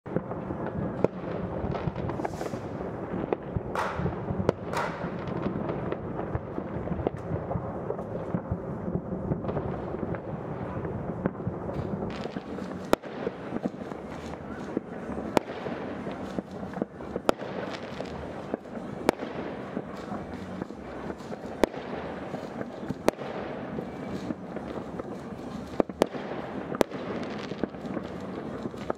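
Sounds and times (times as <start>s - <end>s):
fireworks banging: 0.1s - 28.9s
sharp firework cracks: 0.1s - 28.9s
hissing firework whooshes: 1.1s - 28.9s.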